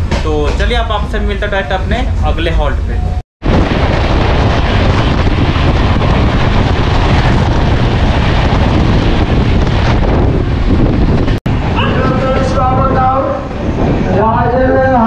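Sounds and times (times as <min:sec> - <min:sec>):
passing train: 0:00.0 - 0:15.0
rush of rail noise: 0:00.0 - 0:15.0
wind buffeting microphone: 0:00.0 - 0:15.0.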